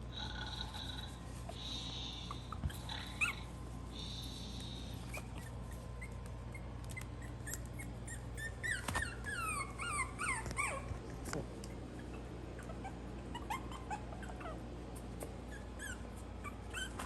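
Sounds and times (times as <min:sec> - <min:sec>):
puppies whimpering: 0:00.2 - 0:17.0.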